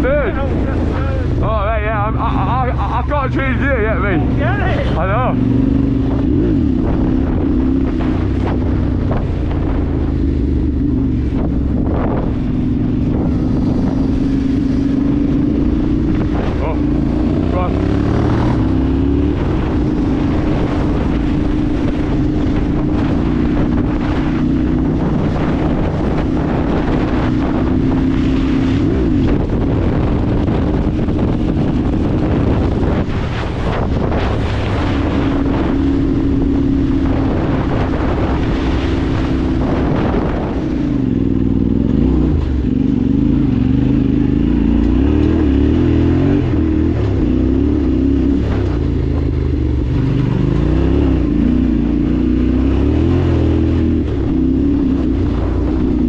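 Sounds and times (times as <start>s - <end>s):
vehicle engine running: 0.0s - 56.0s
wind on microphone: 0.0s - 56.0s.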